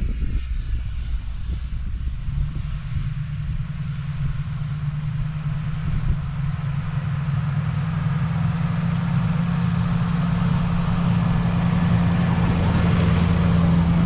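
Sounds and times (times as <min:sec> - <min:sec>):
truck engine hum: 0:01.2 - 0:14.0.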